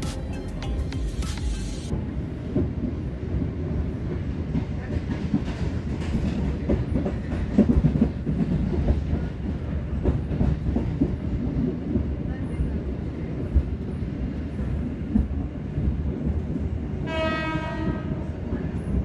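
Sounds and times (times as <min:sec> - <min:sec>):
train coach low rumble: 0:00.0 - 0:19.0.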